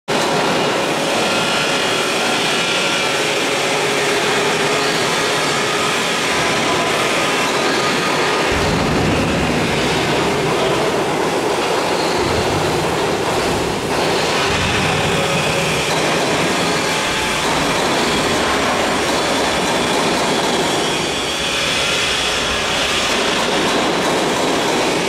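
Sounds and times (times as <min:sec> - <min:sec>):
overhead crane clatter and hum: 0:00.1 - 0:25.0.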